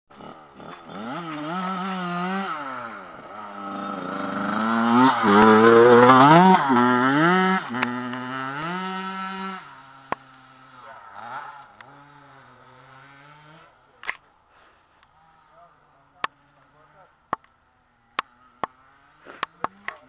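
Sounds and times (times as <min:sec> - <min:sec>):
dirt bike engine revving: 0:00.1 - 0:20.0.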